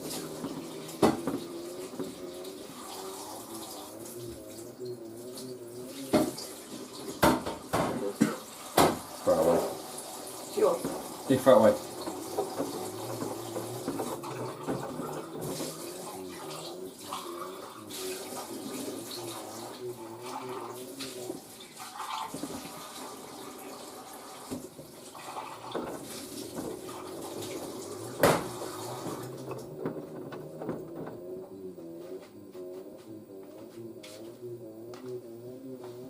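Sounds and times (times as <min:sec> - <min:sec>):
water sloshing in washer drum: 0:00.0 - 0:31.6
washing machine low hum: 0:00.0 - 0:36.0.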